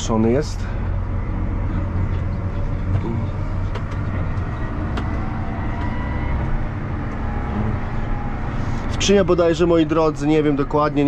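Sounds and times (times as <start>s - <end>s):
tractor engine rumble: 0.0s - 11.0s.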